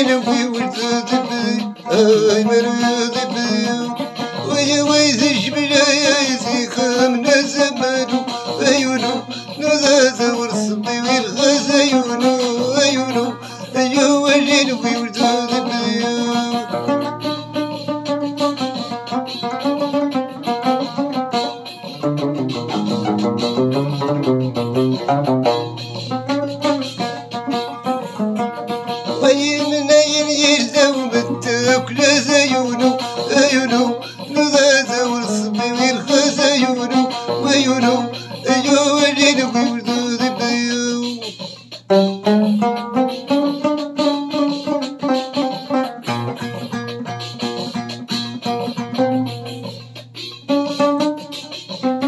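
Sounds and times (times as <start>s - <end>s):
person singing: 0.0s - 42.3s
plucked lute melody: 0.0s - 52.0s.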